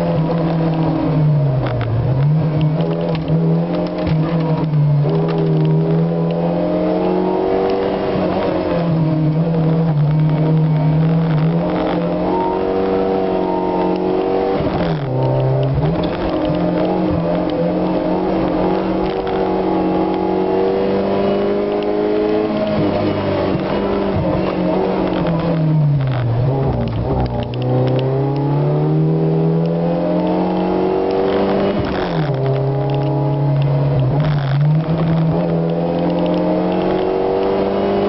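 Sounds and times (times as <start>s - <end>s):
race car engine at high revs: 0.0s - 38.0s.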